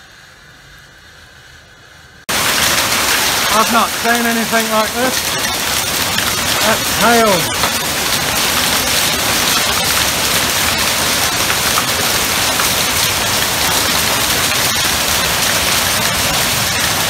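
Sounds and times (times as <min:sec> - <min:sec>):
clicks of single hailstones: 0:02.3 - 0:17.0
heavy hail falling: 0:02.3 - 0:17.0.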